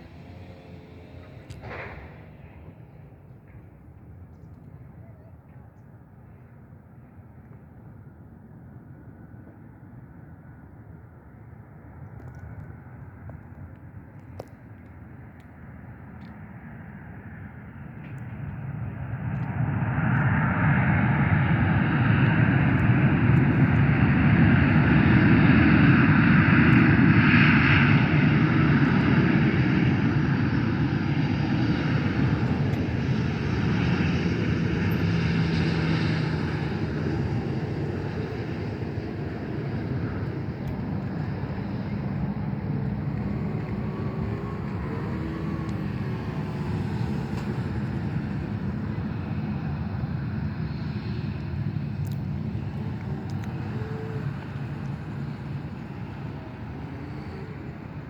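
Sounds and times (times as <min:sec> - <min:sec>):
airliner engines passing: 0:00.0 - 0:58.0.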